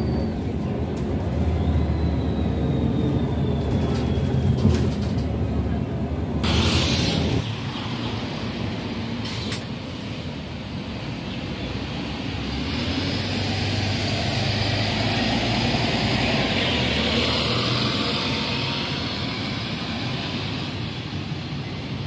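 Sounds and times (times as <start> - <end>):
bus diesel engine driving past: 0.0 - 22.0.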